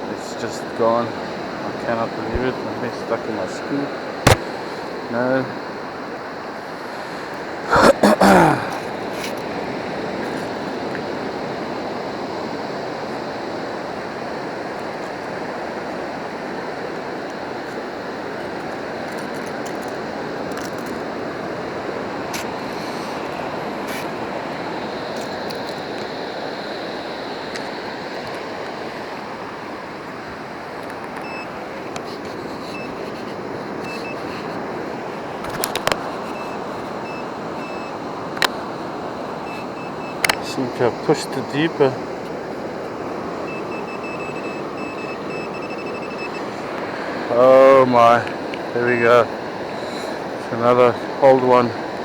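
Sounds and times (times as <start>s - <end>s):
ocean surf breaking: 0.0s - 52.0s.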